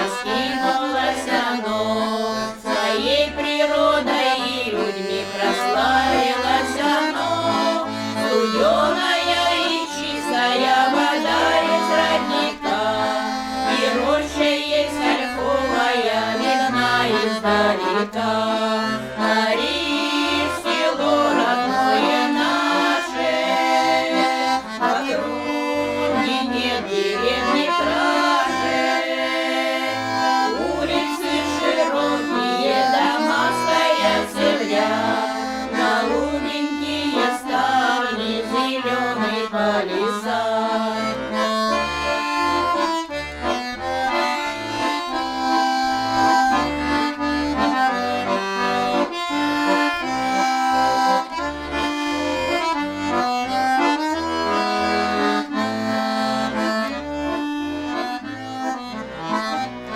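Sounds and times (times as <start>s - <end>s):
accordion folk tune: 0.0s - 59.9s.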